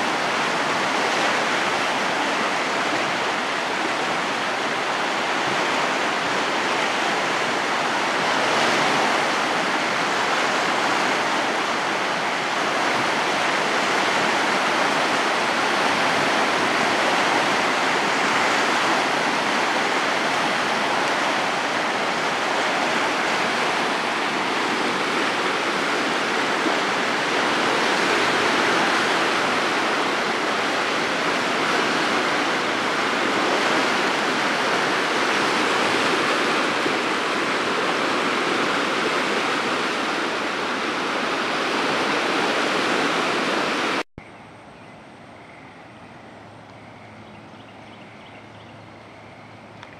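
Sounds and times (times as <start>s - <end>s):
muddy water rushing and churning: 0.0s - 44.0s.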